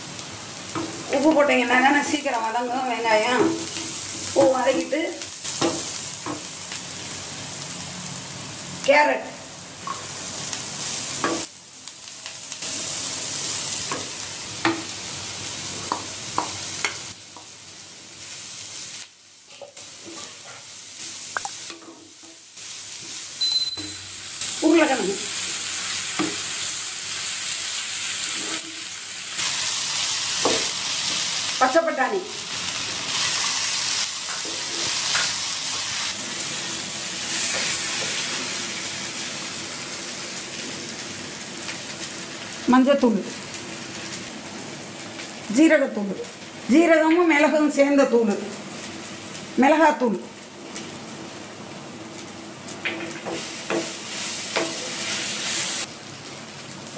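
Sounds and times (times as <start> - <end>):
vegetables sizzling in a pan: 0.0 - 56.9.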